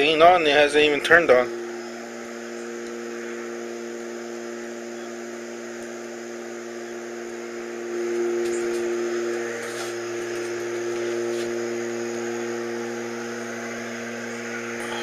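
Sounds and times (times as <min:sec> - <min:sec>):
low humming drone: 0:00.0 - 0:15.0.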